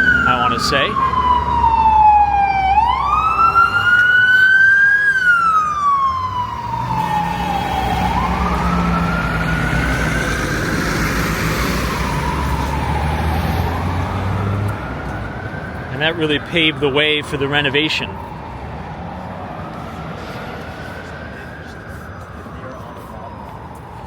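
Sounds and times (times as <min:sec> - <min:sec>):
emergency siren wailing: 0:00.0 - 0:24.0
low traffic rumble: 0:00.0 - 0:24.0.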